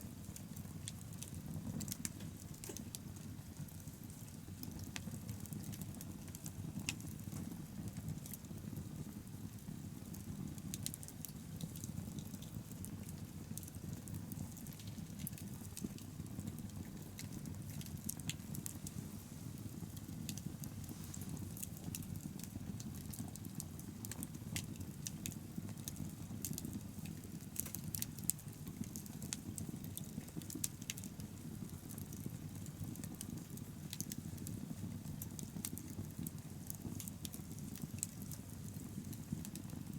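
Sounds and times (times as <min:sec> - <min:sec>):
fire low rumble: 0:00.0 - 0:39.9
bonfire crackles and pops: 0:00.1 - 0:39.9.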